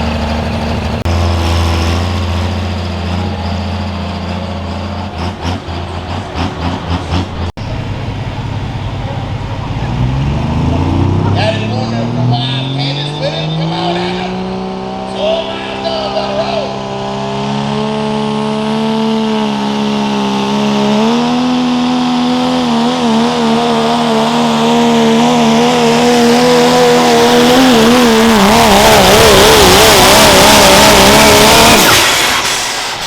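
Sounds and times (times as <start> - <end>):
diesel engine running hard: 0.0 - 33.0.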